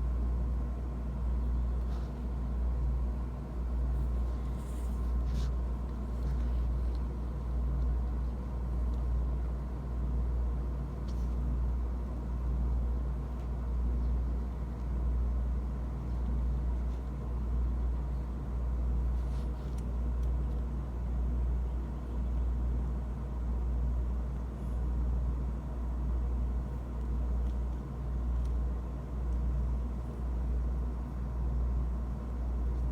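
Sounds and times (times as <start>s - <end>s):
faint engine whine: 0.0s - 32.9s.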